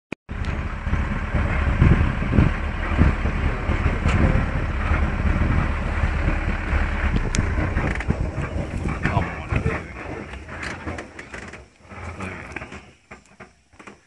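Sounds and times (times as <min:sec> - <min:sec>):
low thumps: 0:00.3 - 0:13.9
vehicle engine rumbling: 0:00.3 - 0:14.0.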